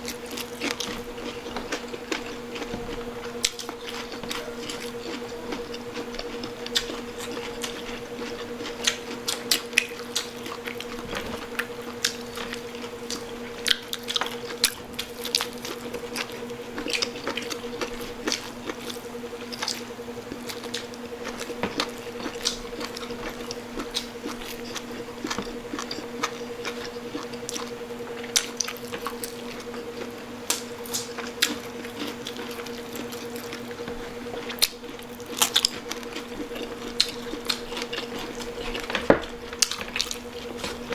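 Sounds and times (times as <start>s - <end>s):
low electrical hum: 0.0s - 40.9s
wet chewing: 0.0s - 40.9s.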